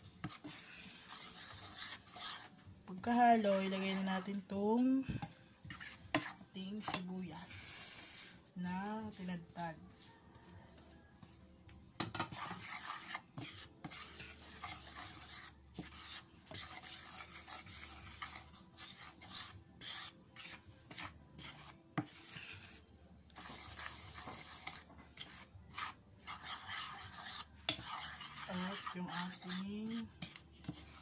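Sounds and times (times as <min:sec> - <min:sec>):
spoon scraping in a bowl: 0:00.2 - 0:10.6, 0:12.0 - 0:31.0.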